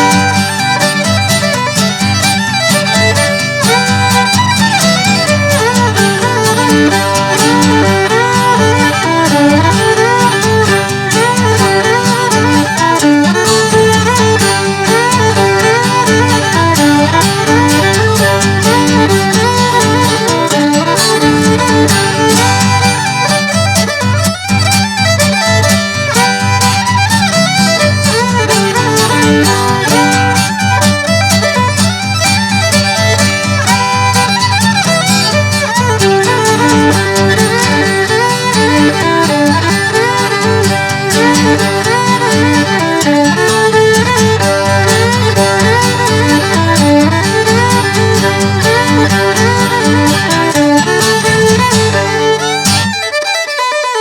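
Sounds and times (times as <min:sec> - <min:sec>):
fiddle tune: 0:00.0 - 0:54.0
guitar rhythm: 0:00.0 - 0:54.0.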